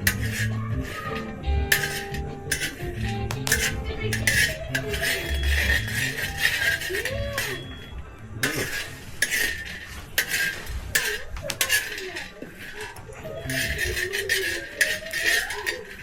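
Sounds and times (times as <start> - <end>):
coffee beans scraping in a pan: 0.0 - 16.0.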